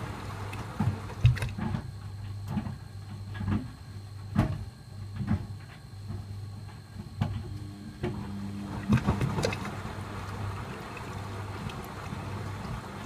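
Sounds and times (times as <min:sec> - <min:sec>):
wet load sloshing and thudding: 0:00.0 - 0:06.3, 0:08.1 - 0:13.0
washing machine motor hum: 0:00.0 - 0:13.0.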